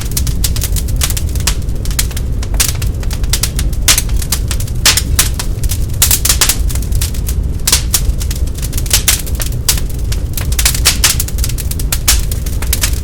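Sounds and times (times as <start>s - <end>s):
log fire crackling and popping: 0.0s - 13.0s.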